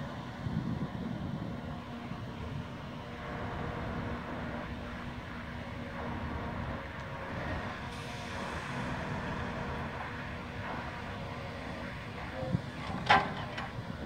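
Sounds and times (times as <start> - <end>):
log loader engine droning: 0.0 - 14.0.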